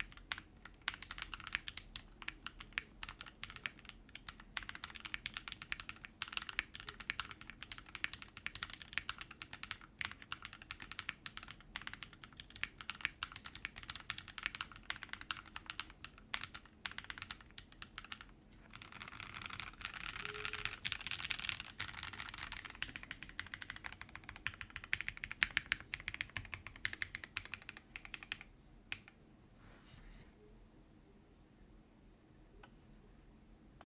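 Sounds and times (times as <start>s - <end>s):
fast typing on mechanical keyboard: 0.0s - 29.1s.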